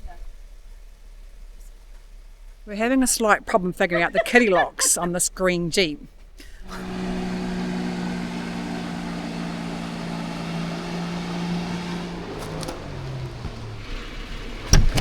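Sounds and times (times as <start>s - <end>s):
car engine humming: 0.0s - 15.0s
road noise: 0.0s - 15.0s.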